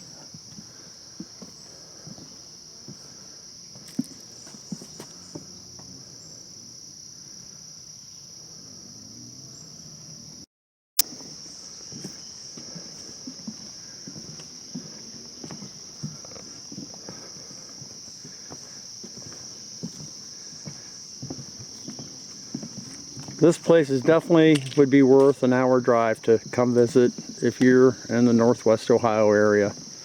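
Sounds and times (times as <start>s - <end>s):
footsteps on wooden boardwalk: 0.0s - 6.0s, 11.0s - 30.0s
insects trilling: 0.0s - 30.0s.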